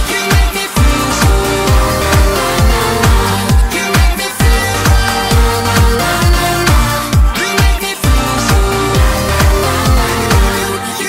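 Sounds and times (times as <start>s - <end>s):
steady kick drum: 0.0s - 10.6s
electronic dance music: 0.0s - 11.0s.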